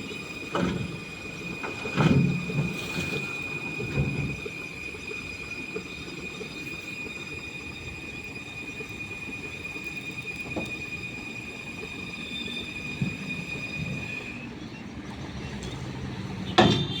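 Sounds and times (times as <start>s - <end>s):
high-pitched mechanical whine: 0.0s - 16.0s
truck engine rumble: 0.0s - 17.0s.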